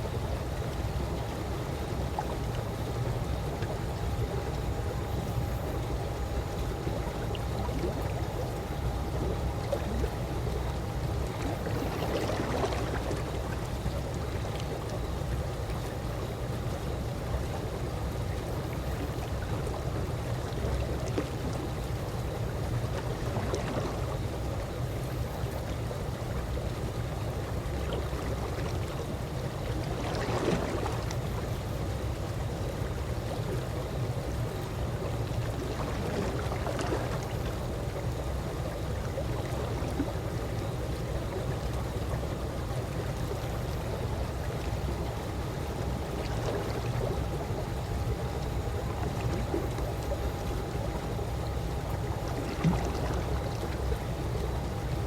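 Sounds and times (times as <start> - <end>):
faint steady hum: 0.0 - 55.0
pool water lapping and gurgling: 0.0 - 55.0.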